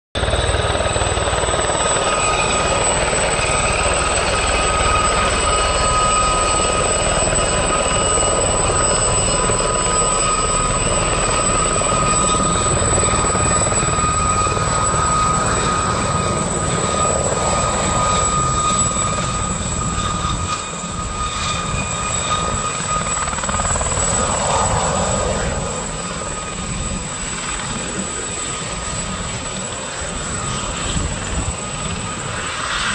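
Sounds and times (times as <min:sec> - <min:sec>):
helicopter engine whine: 0:00.2 - 0:32.9.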